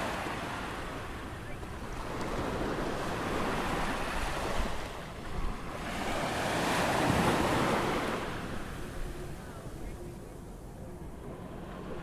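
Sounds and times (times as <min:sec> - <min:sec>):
ocean waves breaking on beach: 0:00.0 - 0:10.2.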